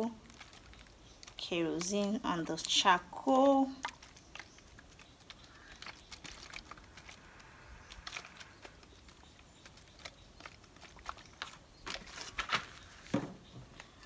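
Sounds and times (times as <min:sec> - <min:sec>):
liquid pattering on charcoal: 0:00.0 - 0:14.0.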